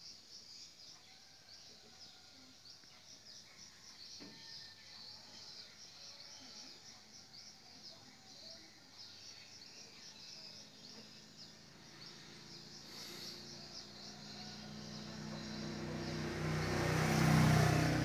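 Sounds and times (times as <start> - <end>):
night insects chirping: 0.0 - 18.0.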